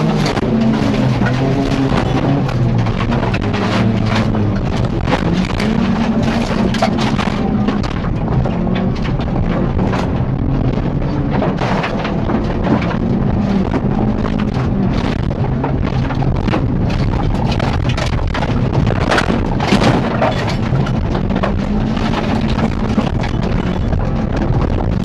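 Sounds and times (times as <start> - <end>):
car body knocking and rattling: 0.0 - 25.0
car engine running hard: 0.0 - 25.0.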